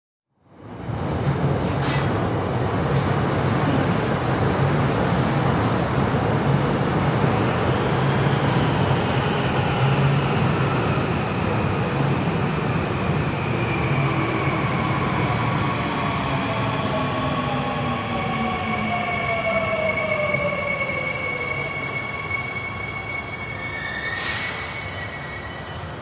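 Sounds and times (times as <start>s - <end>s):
train rumble and hum: 0.5s - 26.0s.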